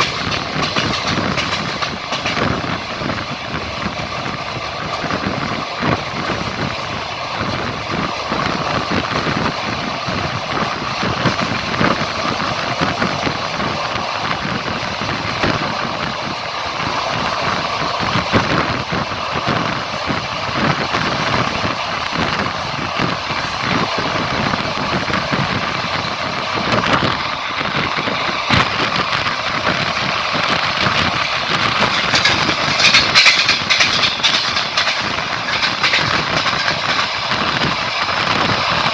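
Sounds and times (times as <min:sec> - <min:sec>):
train rumbling: 0:00.0 - 0:38.9
wheels clattering on rails: 0:00.0 - 0:38.9.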